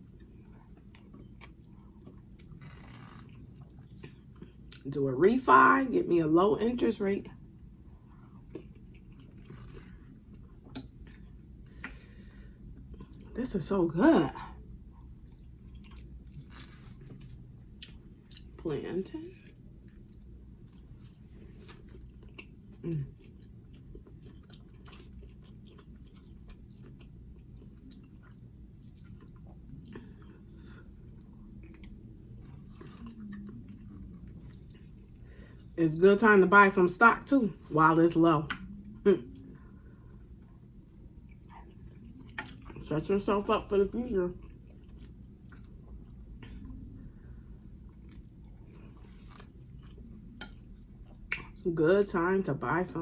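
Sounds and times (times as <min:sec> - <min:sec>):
person chewing food: 0:00.0 - 0:04.9, 0:07.4 - 0:13.4, 0:14.6 - 0:18.6, 0:19.3 - 0:35.8, 0:38.4 - 0:42.8, 0:44.4 - 0:51.6.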